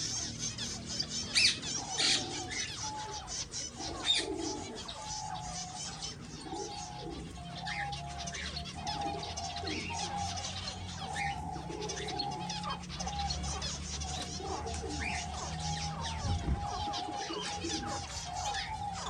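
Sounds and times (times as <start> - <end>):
flock of finches chirping: 0.0 - 19.0.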